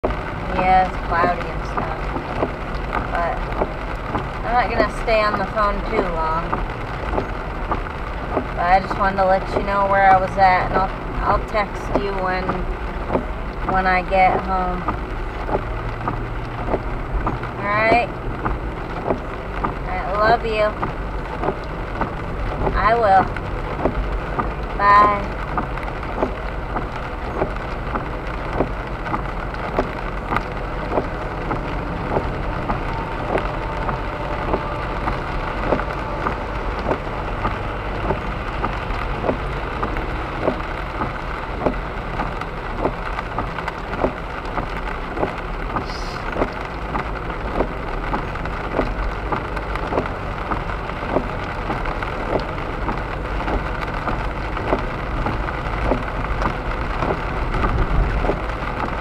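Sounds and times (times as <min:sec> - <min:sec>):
car driving on wet road: 0:00.0 - 0:59.0
rain on a car windshield: 0:00.0 - 0:59.0.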